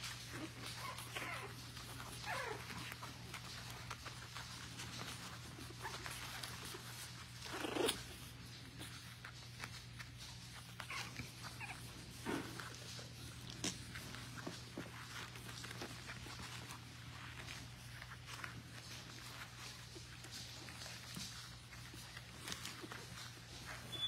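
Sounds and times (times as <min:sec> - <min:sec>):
puppies whimpering and yipping: 0:00.0 - 0:24.0.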